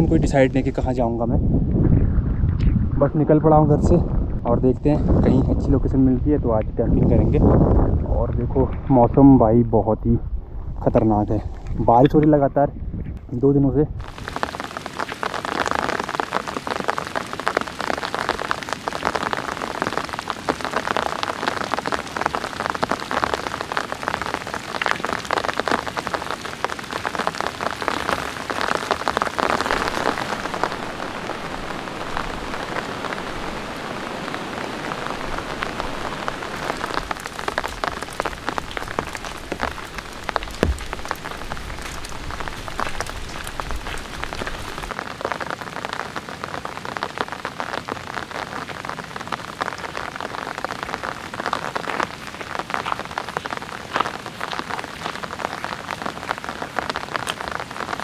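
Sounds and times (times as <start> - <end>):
heavy rain: 0.0 - 9.7, 13.4 - 58.0.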